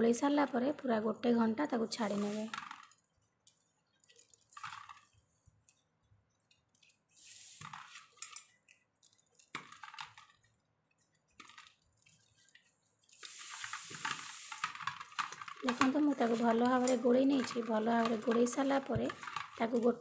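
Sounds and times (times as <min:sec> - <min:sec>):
rustling in metal bowl: 0:01.8 - 0:06.0, 0:06.8 - 0:20.0.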